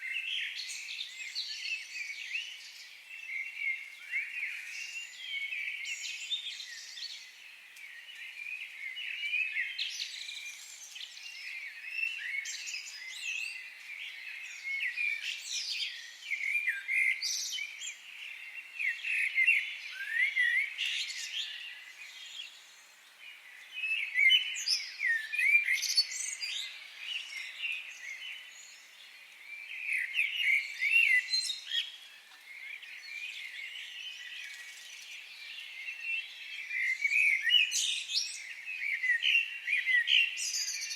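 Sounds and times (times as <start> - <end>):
birds chirping in chorus: 0.0 - 40.9.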